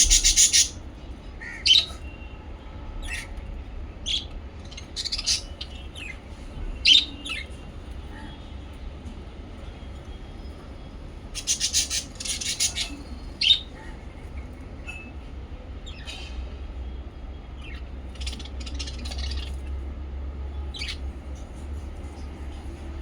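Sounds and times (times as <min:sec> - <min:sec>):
birds chirping and chattering: 0:00.0 - 0:23.0
steady low hum: 0:00.0 - 0:23.0.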